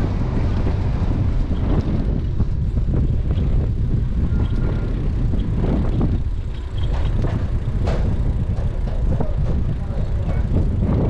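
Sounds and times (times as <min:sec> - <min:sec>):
tyre noise on pavement: 0:00.0 - 0:11.0
wind buffeting microphone: 0:00.0 - 0:11.0
bicycle clicks and rattles: 0:00.1 - 0:11.0.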